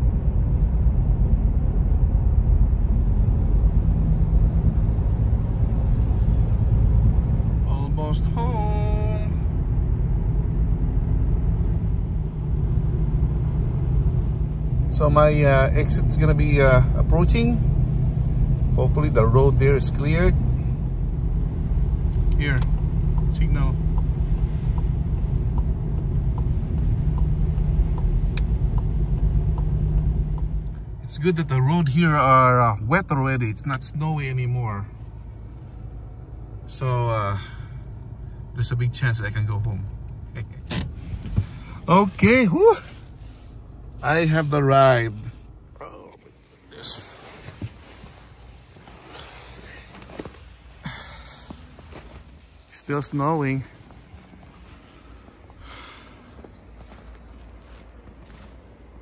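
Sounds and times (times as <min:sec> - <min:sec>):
low rumble inside car cabin: 0:00.0 - 0:59.0.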